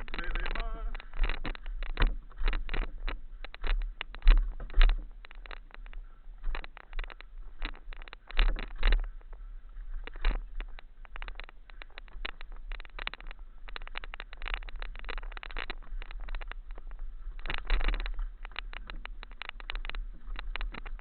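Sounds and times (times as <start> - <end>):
mountain bike rattling on trail: 0.0 - 21.0.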